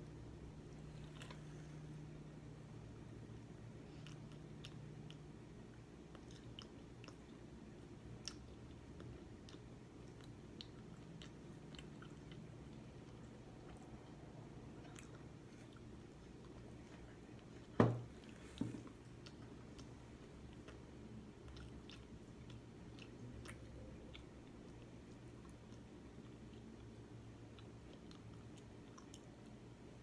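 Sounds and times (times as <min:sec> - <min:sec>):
person chewing: 0:00.6 - 0:02.2, 0:03.0 - 0:29.7.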